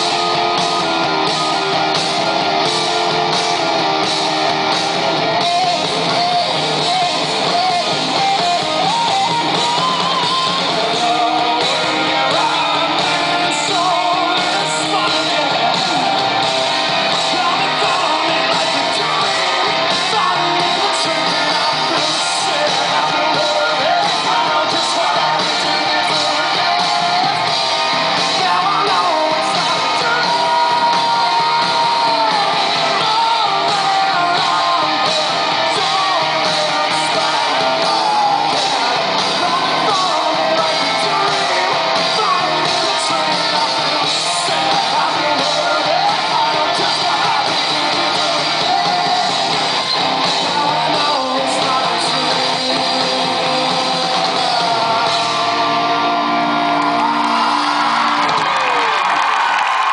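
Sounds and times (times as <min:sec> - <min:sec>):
rock band playing loudly: 0:00.0 - 0:59.9
man singing: 0:05.3 - 0:16.4, 0:17.0 - 0:56.3.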